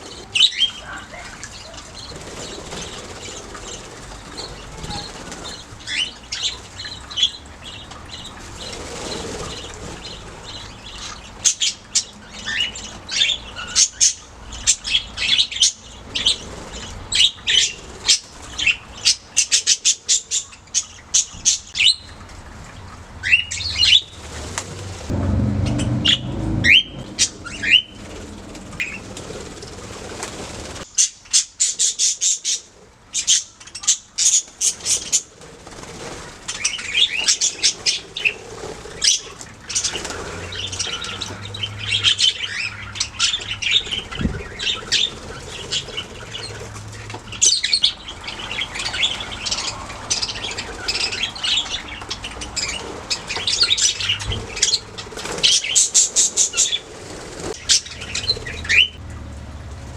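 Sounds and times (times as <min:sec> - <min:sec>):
budgerigars chirping and warbling: 0:00.0 - 0:22.2, 0:23.2 - 0:24.2, 0:25.7 - 0:59.0.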